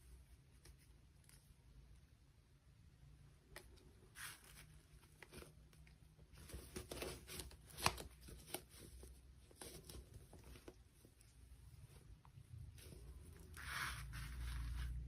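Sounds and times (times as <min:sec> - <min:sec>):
soft rustling of packaging: 0:00.0 - 0:02.5, 0:03.1 - 0:15.0.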